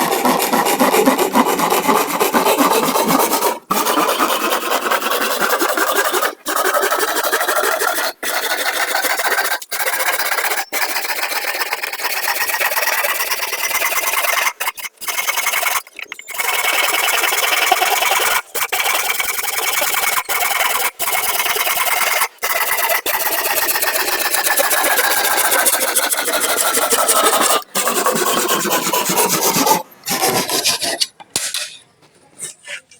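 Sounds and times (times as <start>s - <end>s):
hand tool rasping wood: 0.0s - 31.7s.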